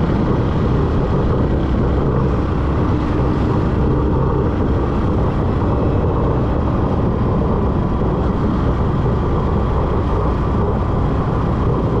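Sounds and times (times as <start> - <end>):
motorcycle engine and tyres rumbling: 0.0 - 12.0
wind noise on microphone: 0.0 - 12.0.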